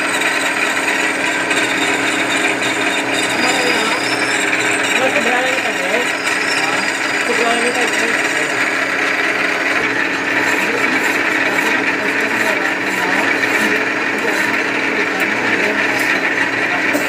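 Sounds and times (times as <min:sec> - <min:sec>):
metal lathe whirring: 0:00.0 - 0:17.0.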